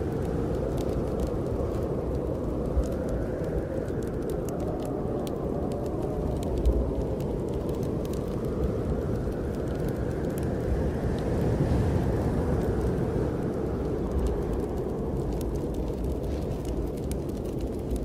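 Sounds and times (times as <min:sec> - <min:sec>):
wind blowing: 0:00.0 - 0:18.0
wood fire crackles: 0:00.0 - 0:18.0.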